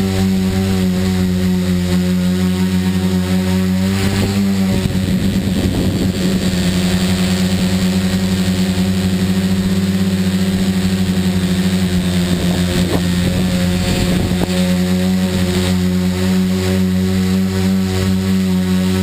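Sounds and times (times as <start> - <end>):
drone motors buzzing: 0.0 - 19.0.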